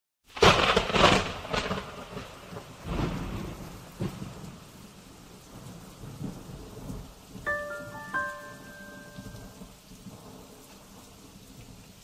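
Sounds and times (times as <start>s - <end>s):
rain on wet street: 0.2s - 12.0s.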